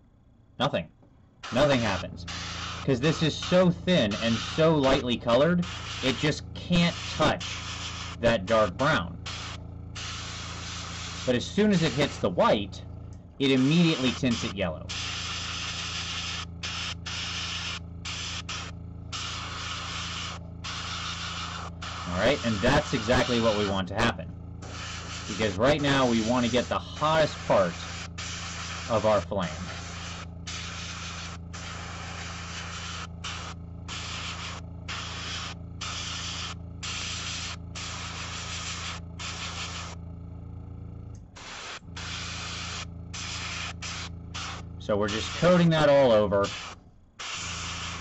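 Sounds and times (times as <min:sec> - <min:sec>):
low hum: 0:00.0 - 0:45.6
airbrush spraying hiss: 0:01.4 - 0:12.3, 0:13.4 - 0:23.8, 0:24.6 - 0:40.0, 0:41.4 - 0:48.0.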